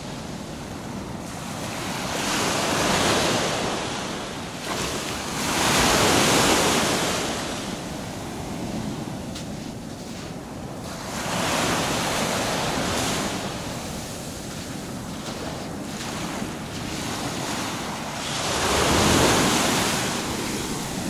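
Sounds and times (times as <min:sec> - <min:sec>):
small waves breaking on beach: 0:00.0 - 0:21.0
wind rumble on microphone: 0:00.0 - 0:21.0.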